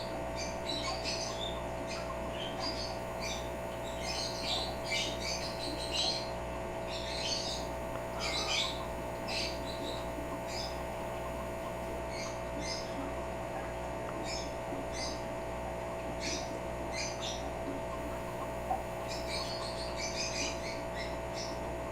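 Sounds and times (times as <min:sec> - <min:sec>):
electrical hum: 0:00.0 - 0:21.9.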